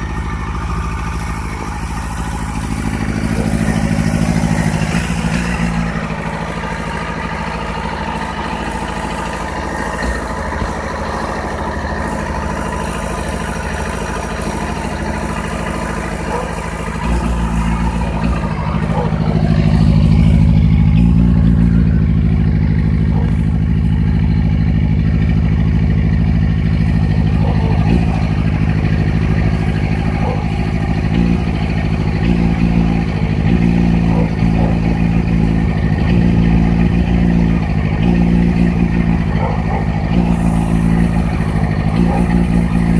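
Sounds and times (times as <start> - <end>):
motorcycle engine idling roughly: 0.0 - 42.9.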